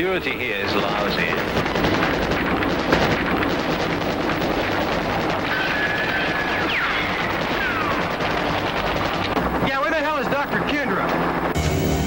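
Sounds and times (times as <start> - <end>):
steady engine din: 0.0 - 12.0
falling whines: 0.5 - 12.0
gunshots crackling: 0.6 - 11.6.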